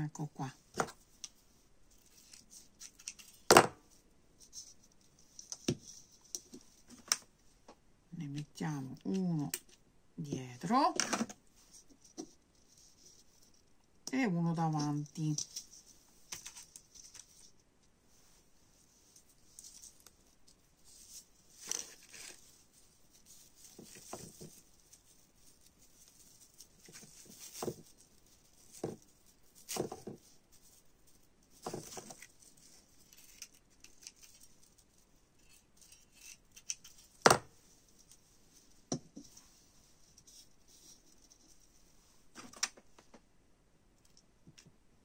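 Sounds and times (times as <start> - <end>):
soft ribbon rustles: 0.3 - 9.8, 10.7 - 43.0.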